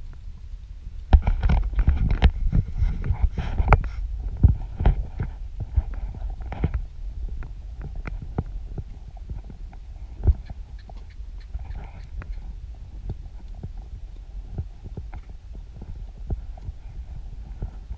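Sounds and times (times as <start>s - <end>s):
low wind rumble: 0.0s - 17.9s.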